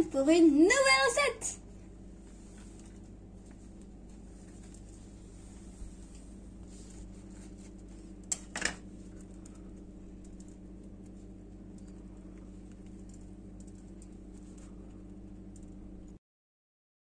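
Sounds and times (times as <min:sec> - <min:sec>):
low electrical hum: 0:00.0 - 0:16.2
bread crust crackling: 0:01.9 - 0:15.6.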